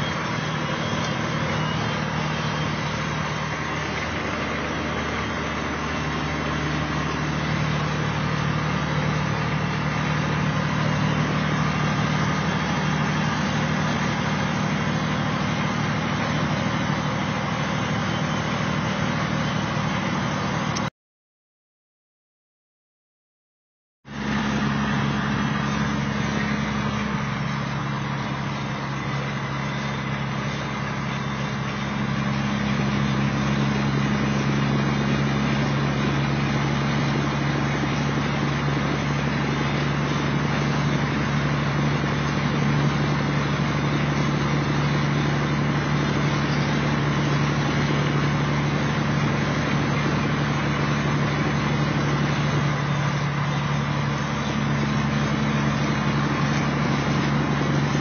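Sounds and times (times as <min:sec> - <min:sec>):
diesel truck engine drone: 0:00.0 - 0:20.9, 0:24.0 - 0:58.0
road and tyre noise: 0:00.0 - 0:20.9, 0:24.0 - 0:58.0.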